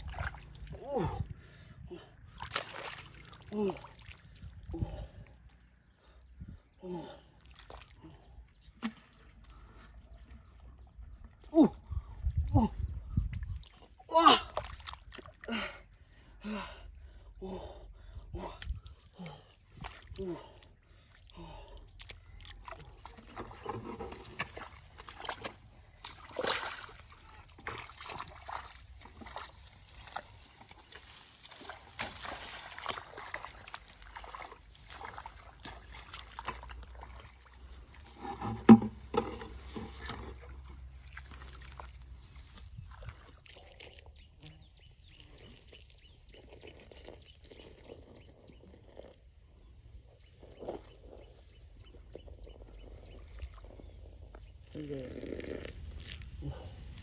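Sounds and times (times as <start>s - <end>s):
muddy water sloshing and splashing: 0.0s - 57.0s.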